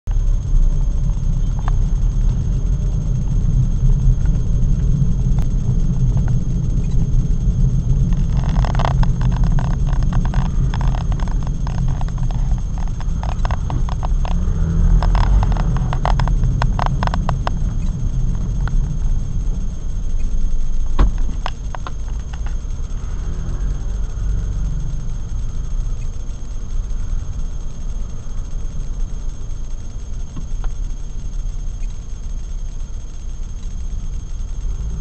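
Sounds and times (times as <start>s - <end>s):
car interior low rumble: 0.0s - 35.0s.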